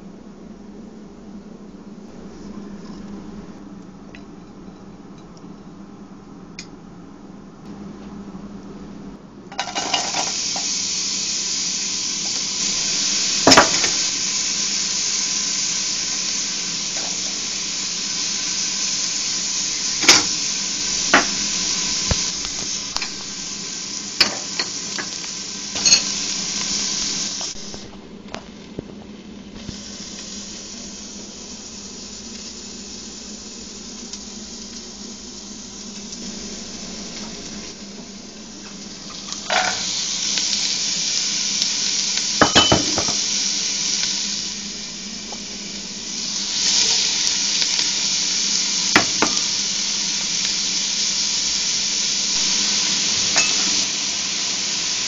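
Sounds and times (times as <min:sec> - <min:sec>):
onion frying in hot oil: 0:09.5 - 0:55.0.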